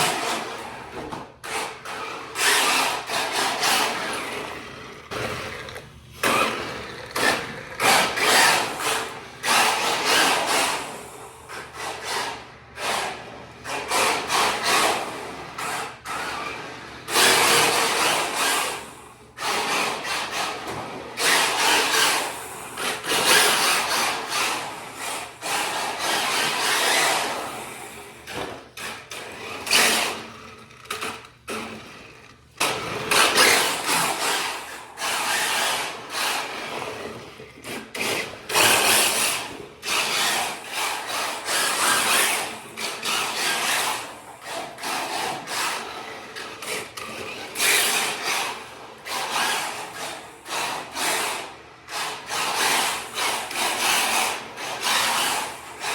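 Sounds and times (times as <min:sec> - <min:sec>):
rc car electric motor whirring: 0:01.4 - 0:55.9.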